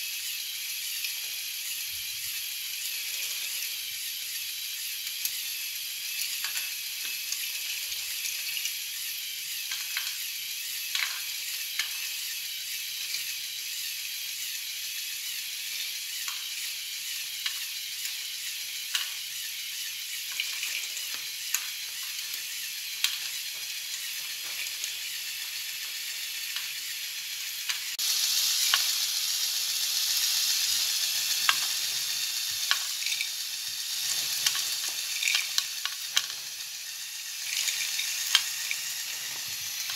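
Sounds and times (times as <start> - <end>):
toy motor and gears whirring: 0.0 - 39.9.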